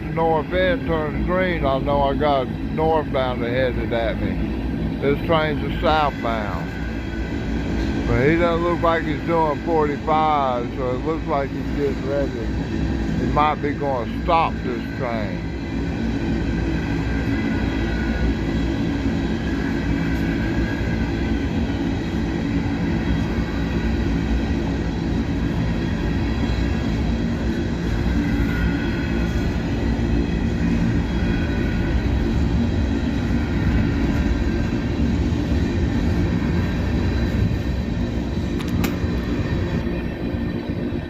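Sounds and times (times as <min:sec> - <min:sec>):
steel wheels rumbling on rail: 0:00.0 - 0:41.0
faint high wheel squeal: 0:00.2 - 0:24.6, 0:25.6 - 0:35.0.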